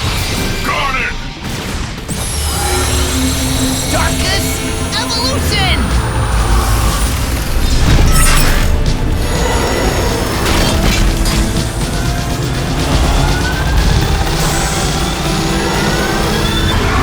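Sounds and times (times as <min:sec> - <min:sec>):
dramatic background music: 0:00.0 - 0:17.0
sharp hits: 0:00.0 - 0:17.0.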